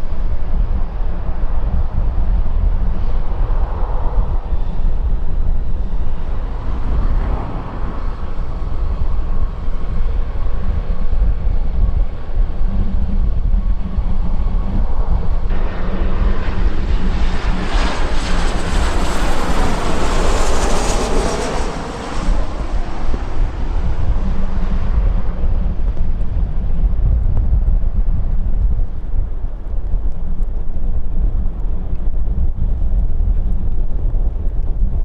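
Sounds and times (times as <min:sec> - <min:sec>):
airliner engines passing: 0:00.0 - 0:35.0
wind buffeting microphone: 0:00.0 - 0:35.0.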